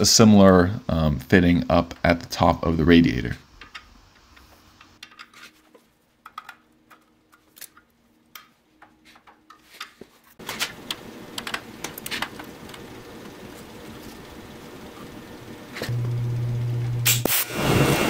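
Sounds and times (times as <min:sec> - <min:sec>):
steady hiss-like background: 0:00.0 - 0:15.9
faint steady hum: 0:00.0 - 0:17.9.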